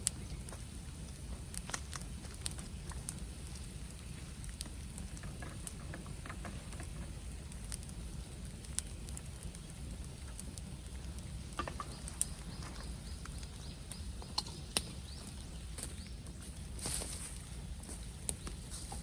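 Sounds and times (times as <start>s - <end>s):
bamboo fire crackling and popping: 0.0s - 19.0s
low fire rumble: 0.0s - 19.0s.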